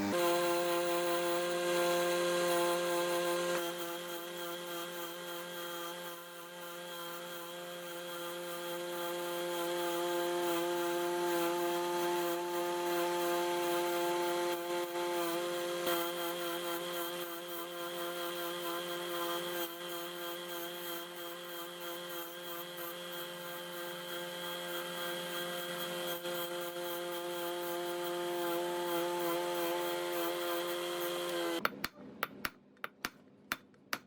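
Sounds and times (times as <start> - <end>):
electric power tool running: 0.0 - 31.6.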